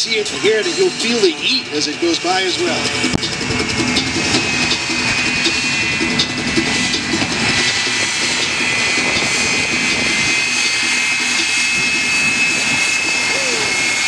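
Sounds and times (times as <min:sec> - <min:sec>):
jet engine roar with high whine: 0:00.0 - 0:14.0.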